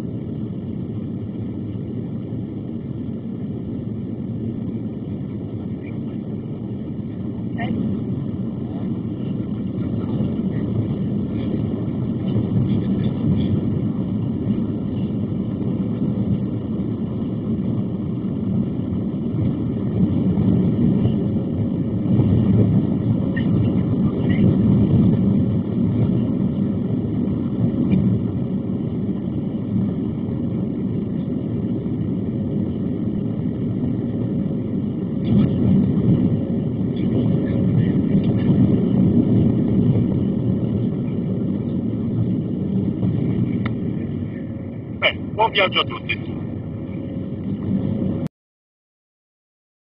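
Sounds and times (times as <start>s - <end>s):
air rushing along fuselage: 0.0s - 48.3s
airplane cabin jet roar: 0.0s - 48.3s.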